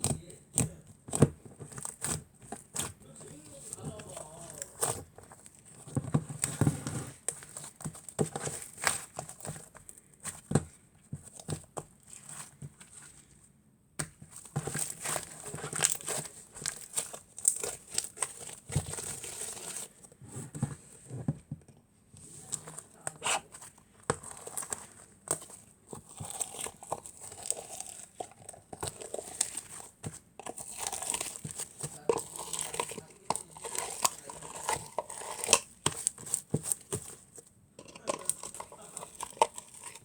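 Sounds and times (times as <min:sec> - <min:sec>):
clay being squished by hand: 0:00.0 - 0:40.0.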